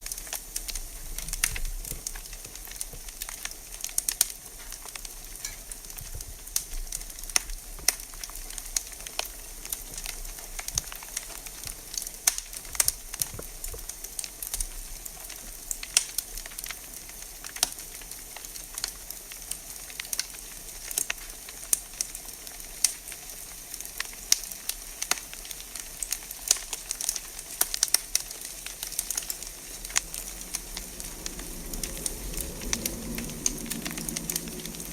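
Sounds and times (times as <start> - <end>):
fire hiss: 0.0 - 34.9
wood fire crackling and popping: 0.0 - 34.9.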